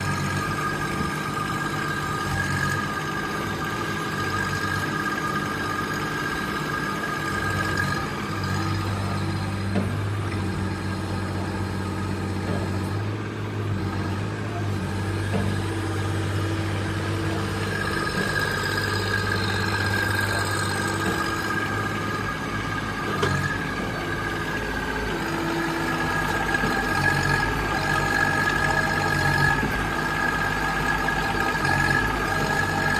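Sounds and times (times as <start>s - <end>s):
excavator engine running: 0.0s - 32.9s.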